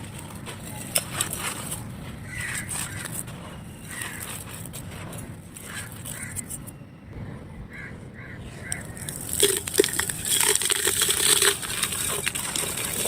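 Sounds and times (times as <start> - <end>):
dry clay crunching: 0.0 - 6.8, 7.8 - 13.0.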